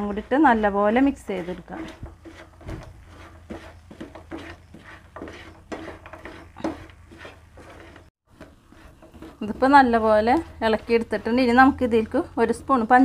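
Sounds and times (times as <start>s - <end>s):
wooden spatula scraping pan: 0.0s - 13.0s.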